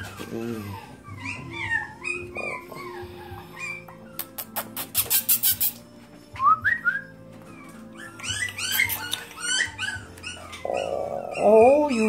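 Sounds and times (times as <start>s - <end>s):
puppies whining: 0.0s - 12.0s
puppies yipping: 0.0s - 12.0s.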